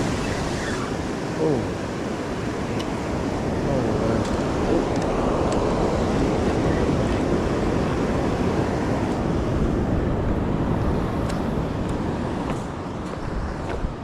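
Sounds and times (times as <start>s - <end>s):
surf washing onto shore: 0.0s - 14.0s
wind noise on microphone: 0.0s - 14.0s.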